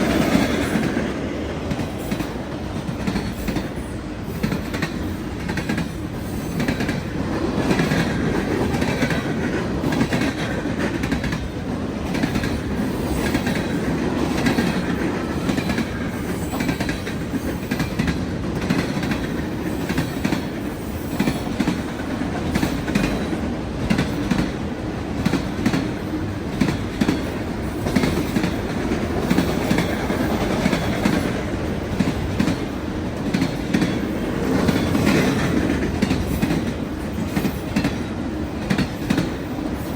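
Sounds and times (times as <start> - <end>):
freight train rolling past: 0.0 - 39.9
wheels clicking over rail joints: 0.0 - 39.9.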